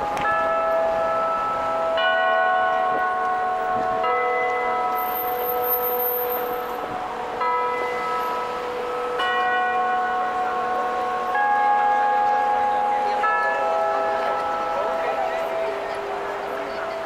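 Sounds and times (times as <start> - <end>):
clock tower bells chiming: 0.0 - 17.0.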